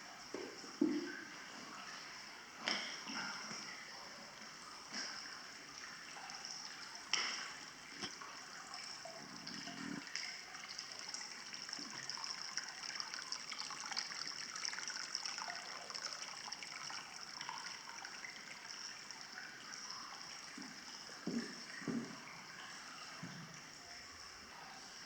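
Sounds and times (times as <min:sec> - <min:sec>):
water trickling: 0:00.0 - 0:25.0.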